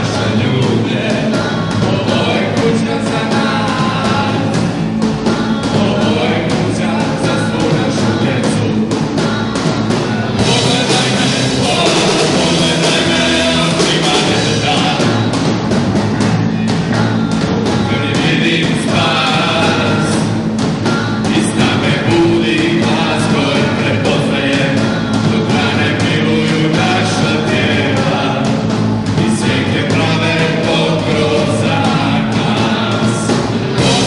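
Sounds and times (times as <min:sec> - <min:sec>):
live rock band playing: 0:00.0 - 0:34.0
voices singing: 0:00.0 - 0:34.0.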